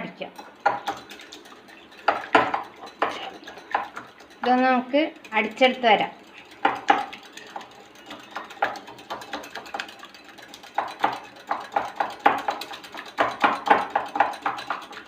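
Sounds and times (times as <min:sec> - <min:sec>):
beater clicking against bowl: 0:00.4 - 0:15.0.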